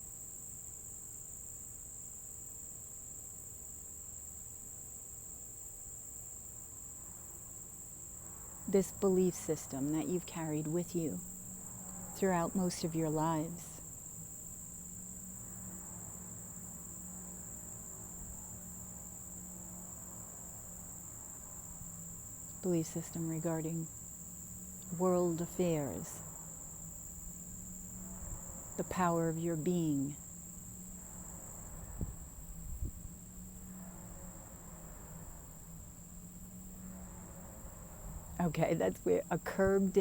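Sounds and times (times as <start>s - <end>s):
faint low hum: 0.0s - 40.0s
insects trilling: 0.0s - 40.0s.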